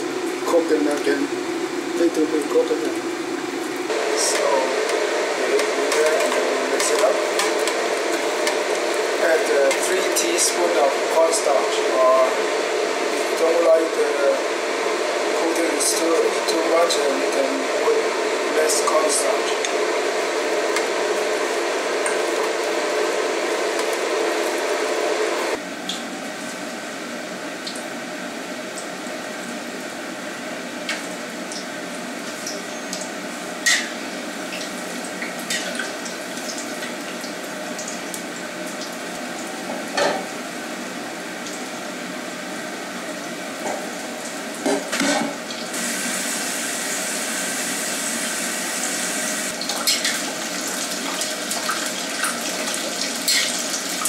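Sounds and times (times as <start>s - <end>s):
pork deep-frying in hot oil: 0.0s - 54.0s.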